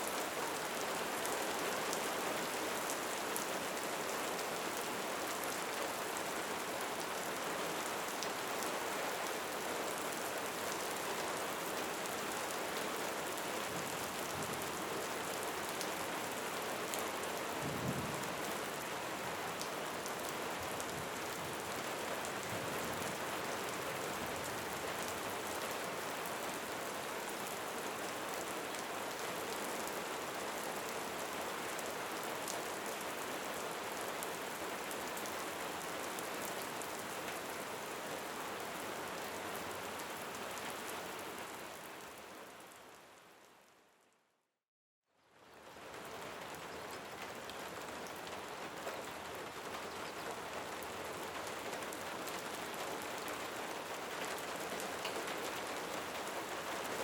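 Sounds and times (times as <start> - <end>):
steady rain falling: 0.0 - 44.1, 45.2 - 57.0.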